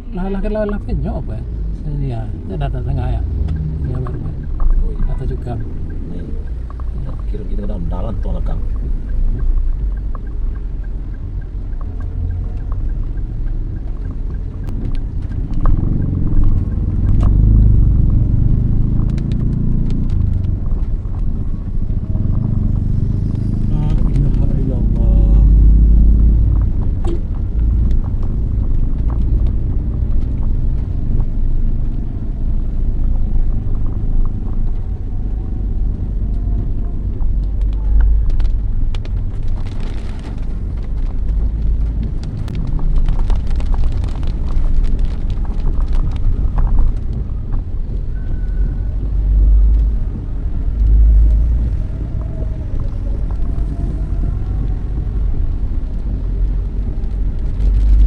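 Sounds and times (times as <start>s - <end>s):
traffic noise: 0.0s - 58.0s
vehicle rumble on road: 0.0s - 58.0s.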